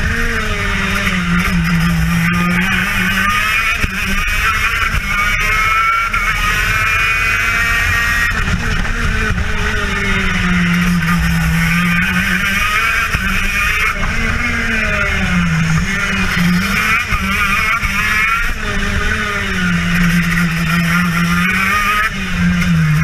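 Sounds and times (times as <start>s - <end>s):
two-stroke kart engine revving: 0.0s - 23.0s.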